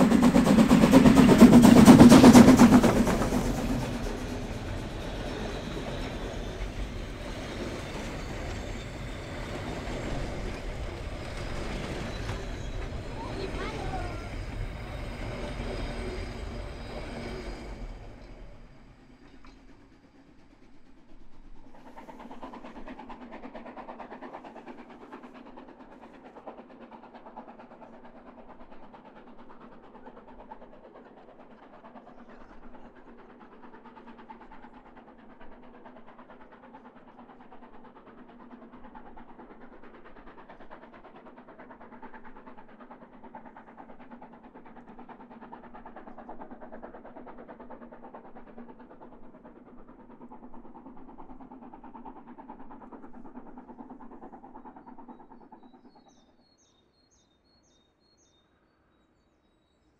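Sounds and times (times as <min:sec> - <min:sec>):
distant steam locomotive exhaust: 0:00.0 - 0:59.9.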